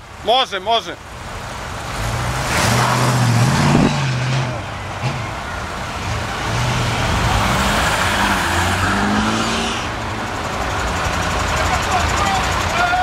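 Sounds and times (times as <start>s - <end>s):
car engines passing slowly: 0.0s - 13.0s.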